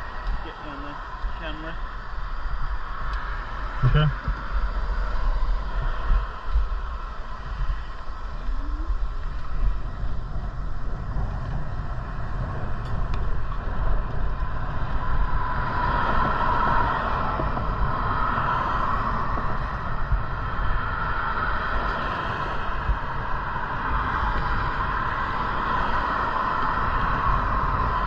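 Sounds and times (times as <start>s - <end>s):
steady high-pitched hum: 0.0s - 28.0s
wind buffeting microphone: 0.0s - 28.0s.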